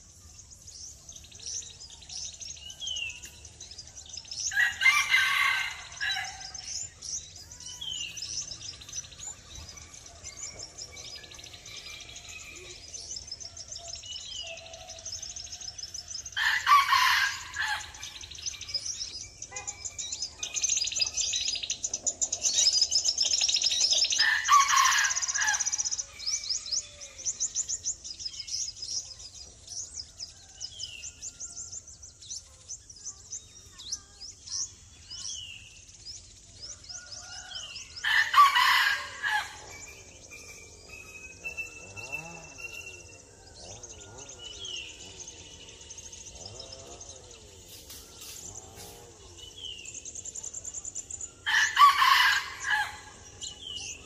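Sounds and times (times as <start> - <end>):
birds chirping in rapid trills: 0.0 - 54.0
loud bird calls: 0.0 - 54.0.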